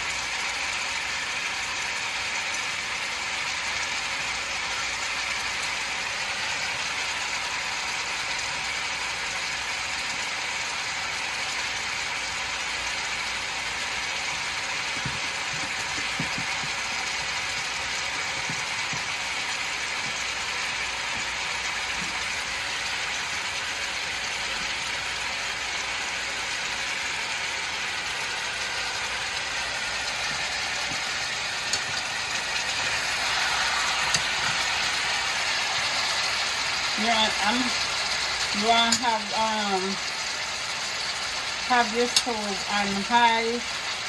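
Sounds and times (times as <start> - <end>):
meat sizzling in oil: 0.0 - 44.0.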